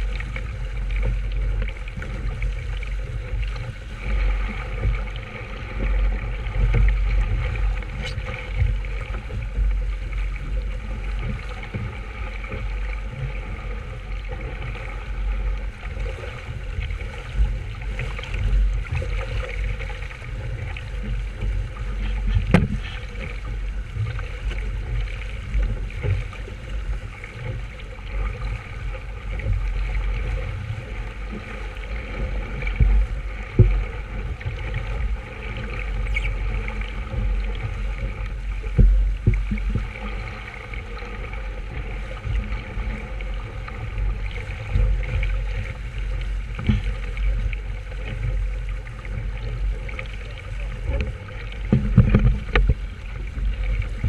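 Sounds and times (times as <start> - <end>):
water sloshing against hull: 0.0 - 54.0.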